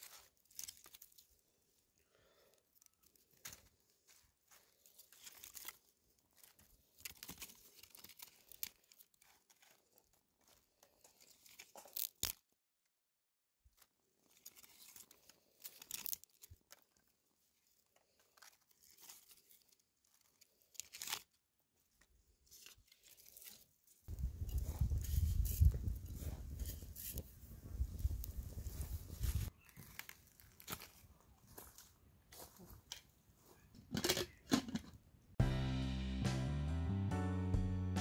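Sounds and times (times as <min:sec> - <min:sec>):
dry leaves and twigs crackling: 0:00.0 - 0:12.6, 0:13.6 - 0:34.5.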